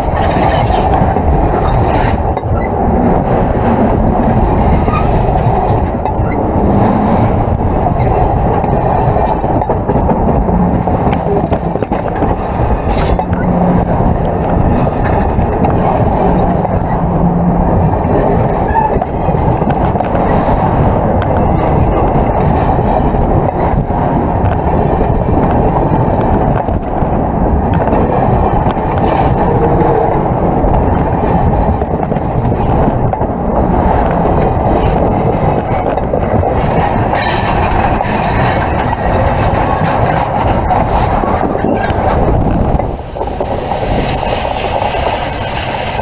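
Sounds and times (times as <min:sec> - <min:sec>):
train wheels rumbling and clacking: 0:00.0 - 0:46.0.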